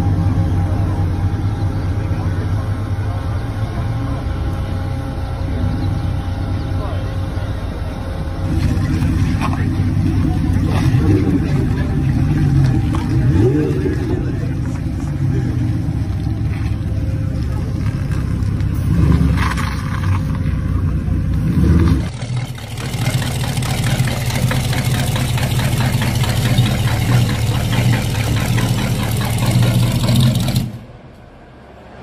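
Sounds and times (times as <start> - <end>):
car engines running loudly: 0.0 - 32.0
engine idling: 0.0 - 32.0.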